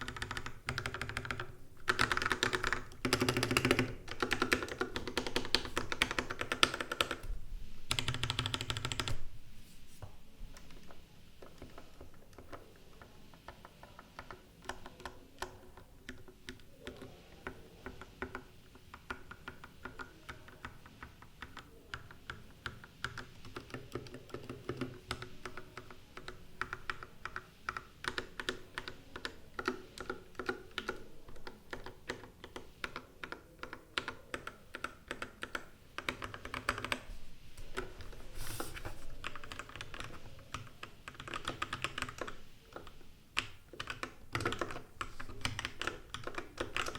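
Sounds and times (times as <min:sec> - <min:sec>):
mechanical keyboard typing: 0:00.0 - 0:07.3, 0:07.9 - 0:09.2, 0:10.6 - 0:37.1, 0:39.1 - 0:46.9.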